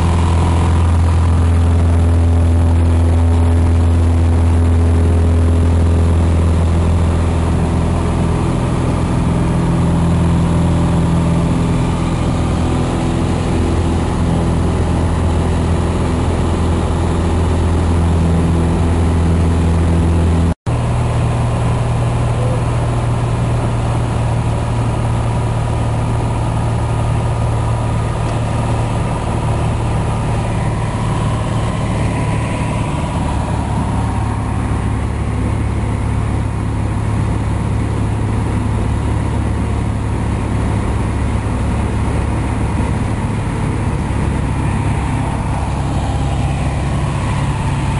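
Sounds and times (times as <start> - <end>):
propeller plane engine droning: 0.0 - 47.9.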